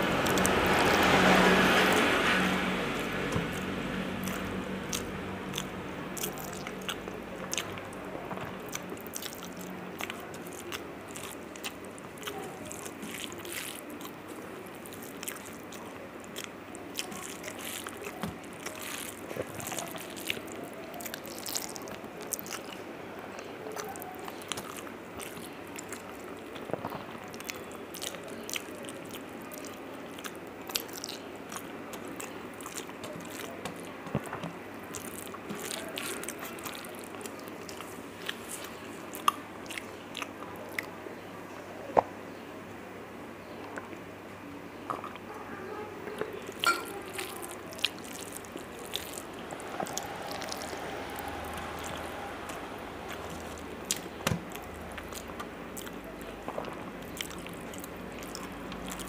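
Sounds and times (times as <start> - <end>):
close chewing with mouth clicks: 0.0 - 41.0, 46.1 - 59.0.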